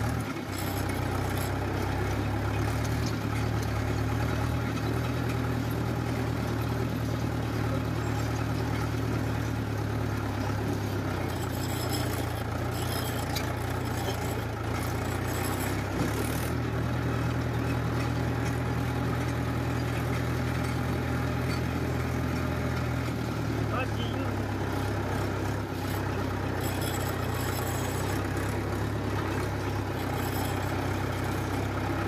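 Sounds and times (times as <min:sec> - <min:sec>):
diesel tractor engine running: 0:00.0 - 0:32.0.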